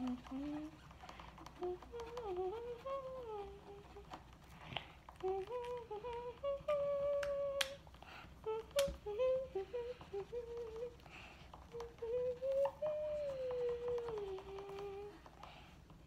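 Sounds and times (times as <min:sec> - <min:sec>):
girl humming: 0:00.0 - 0:04.3, 0:05.1 - 0:15.4.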